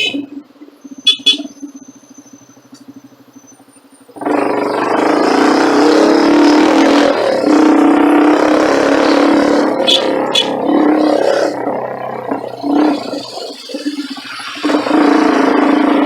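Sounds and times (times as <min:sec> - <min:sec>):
engine idling: 0:00.0 - 0:16.0
engine revving: 0:00.0 - 0:16.0.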